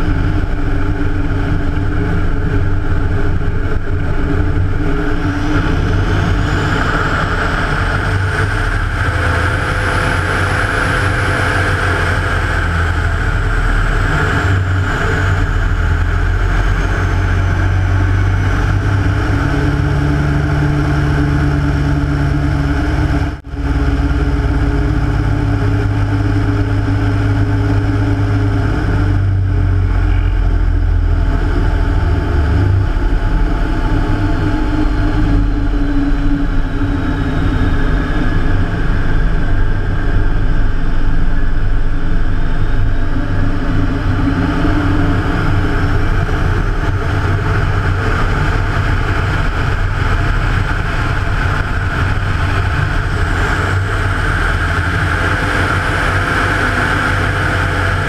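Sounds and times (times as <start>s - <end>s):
aircraft radial engine running: 0.0s - 58.0s.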